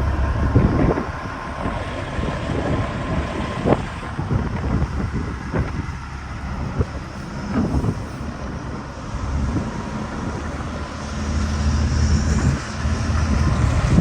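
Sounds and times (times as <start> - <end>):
truck engine droning: 0.0 - 14.0
wind on microphone: 0.0 - 14.0.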